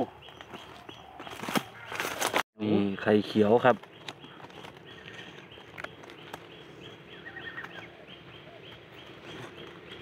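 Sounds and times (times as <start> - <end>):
forest ambience: 0.0 - 10.0.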